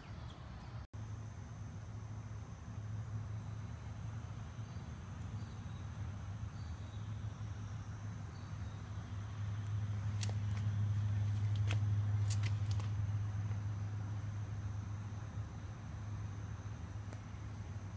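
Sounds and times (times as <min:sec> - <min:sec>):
crickets droning: 0:00.0 - 0:17.9
steady low hum: 0:00.0 - 0:17.9.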